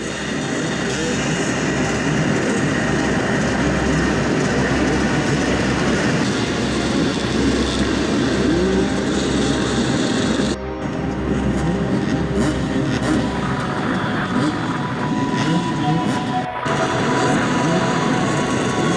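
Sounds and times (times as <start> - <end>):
dirt bike engines revving: 0.0 - 18.9.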